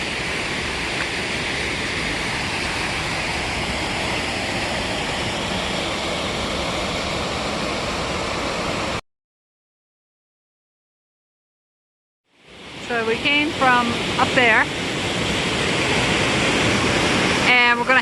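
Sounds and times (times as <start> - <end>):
waterfall rushing: 0.0 - 9.0, 12.4 - 18.0.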